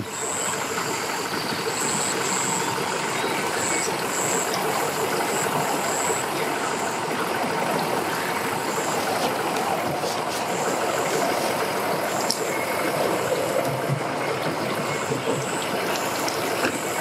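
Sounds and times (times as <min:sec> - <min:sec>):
engines idling: 0:00.0 - 0:17.0.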